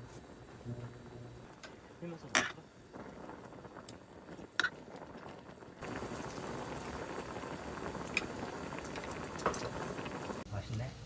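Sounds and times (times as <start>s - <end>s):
pot boiling: 0.0s - 11.0s.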